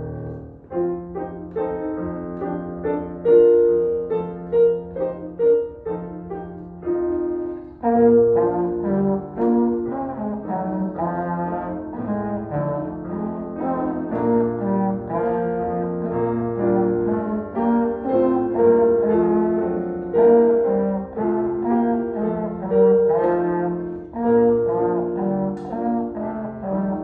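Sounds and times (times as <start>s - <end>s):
brass instrument melody: 0.0s - 27.0s
digital piano: 0.0s - 27.0s.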